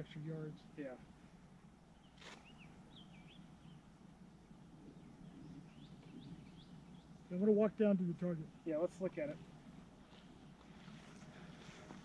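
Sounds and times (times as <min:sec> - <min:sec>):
low steady background hush: 0:00.0 - 0:12.0.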